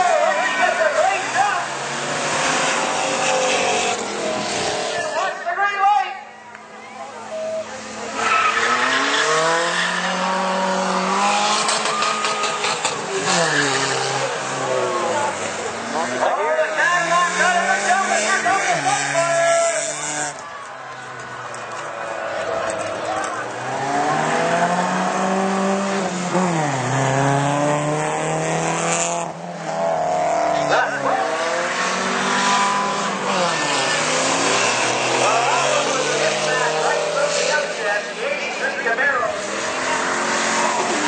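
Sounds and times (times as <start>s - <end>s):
race cars accelerating hard: 0.0s - 5.6s, 6.4s - 41.0s.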